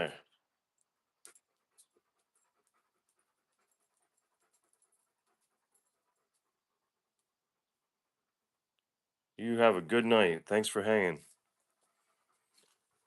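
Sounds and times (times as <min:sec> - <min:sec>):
dog panting: 0:00.1 - 0:08.6, 0:10.8 - 0:13.0.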